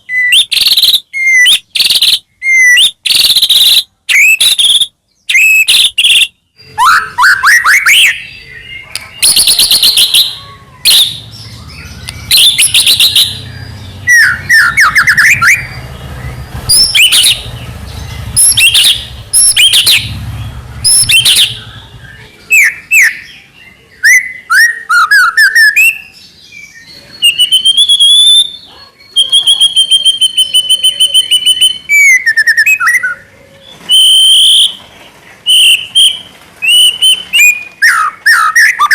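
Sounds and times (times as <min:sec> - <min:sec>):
songbird whistling and trilling: 0:00.0 - 0:20.2, 0:20.8 - 0:34.8, 0:35.4 - 0:38.9.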